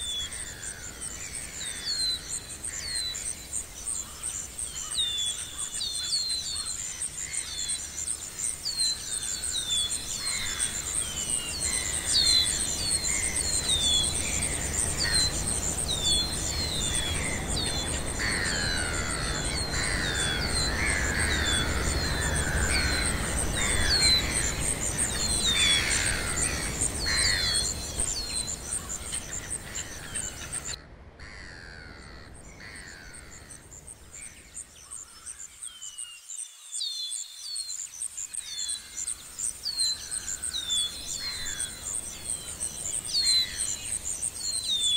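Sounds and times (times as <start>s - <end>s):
birds chirping: 0.0s - 44.9s
pulsing insect trill: 0.1s - 30.8s, 37.2s - 44.9s.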